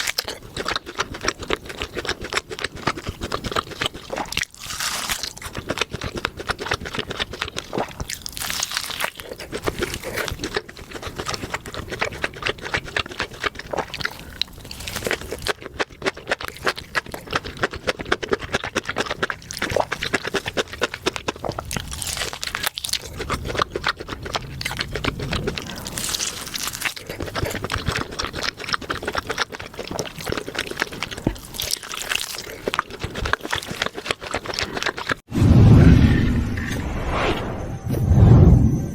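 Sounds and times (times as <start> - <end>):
steak crackling and crunching: 0.0 - 35.3.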